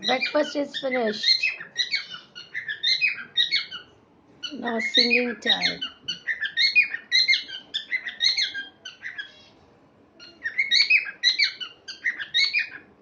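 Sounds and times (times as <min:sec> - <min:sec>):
parrots chirping and chattering: 0:00.0 - 0:13.0.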